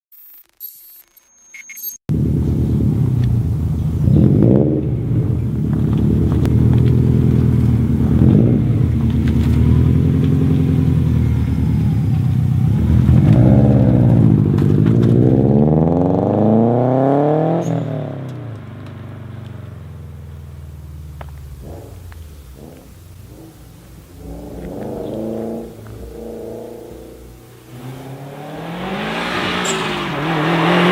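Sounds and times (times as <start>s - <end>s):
car engine revving and accelerating: 2.1s - 30.9s.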